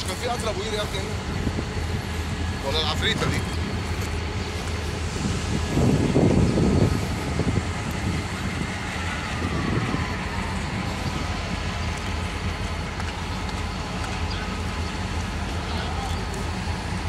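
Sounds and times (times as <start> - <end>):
diesel locomotive engine idling: 0.0 - 17.0.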